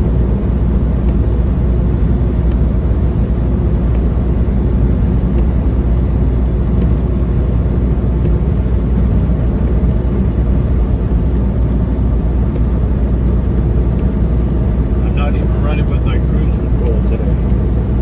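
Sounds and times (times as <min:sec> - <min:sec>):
road noise: 0:00.0 - 0:18.0
truck engine rumble in cab: 0:00.0 - 0:18.0.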